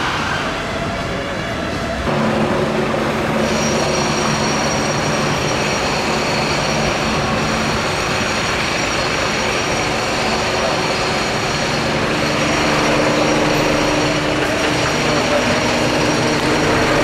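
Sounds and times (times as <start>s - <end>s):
helicopter rotor and engine: 0.0s - 17.0s
high whine: 0.0s - 17.0s.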